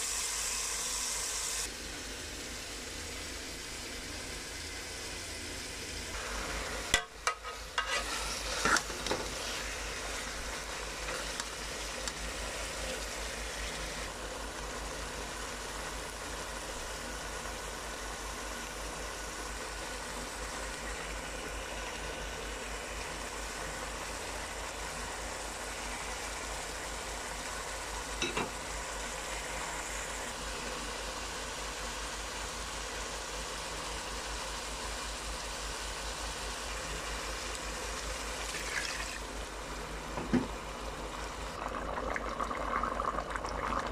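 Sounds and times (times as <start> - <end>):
chicken sizzling in a pot: 0.0 - 43.9.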